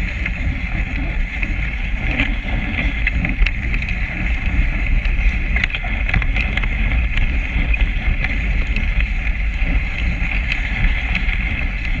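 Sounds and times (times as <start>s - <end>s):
sled runners hissing over snow: 0.0s - 12.0s
small knocks and clicks from sled: 0.0s - 12.0s
wind rumble on microphone: 0.0s - 12.0s.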